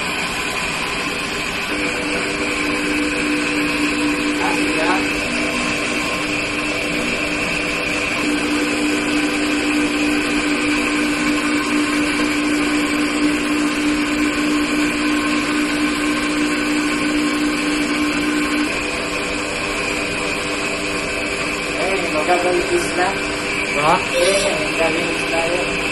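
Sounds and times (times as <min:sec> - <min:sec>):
motor hum drone: 0:00.0 - 0:25.9.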